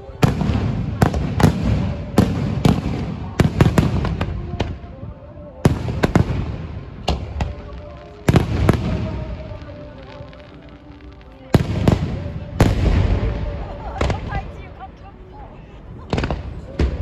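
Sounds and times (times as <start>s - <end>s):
fireworks banging and crackling: 0.0s - 15.0s, 15.9s - 17.0s.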